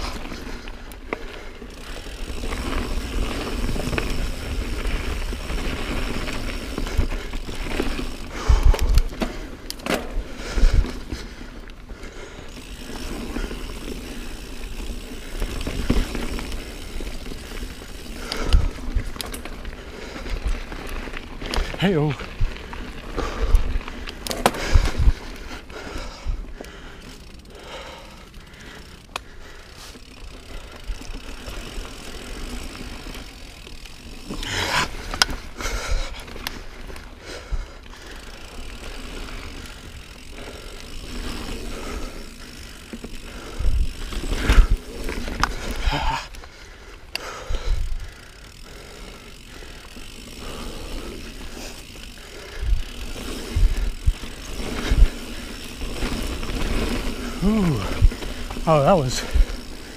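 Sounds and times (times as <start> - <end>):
bike rattling and knocking: 0.0 - 59.9
bike tyres rolling on dirt trail: 0.0 - 59.9.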